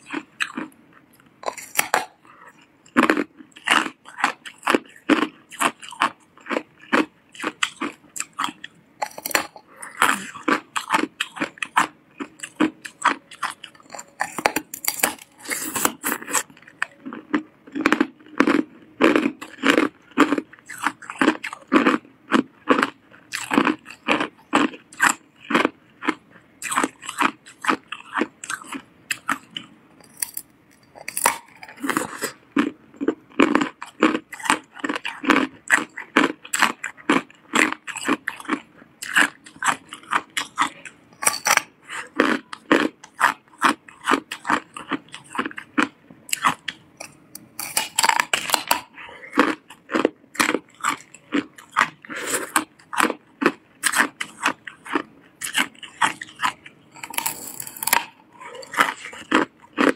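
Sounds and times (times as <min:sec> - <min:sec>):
teeth crunching ice: 0:00.0 - 0:59.9.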